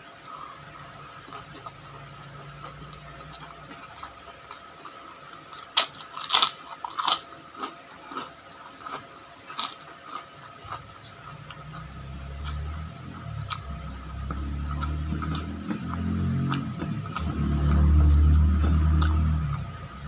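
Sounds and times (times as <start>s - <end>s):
person chewing crunchy food: 0.9s - 19.7s.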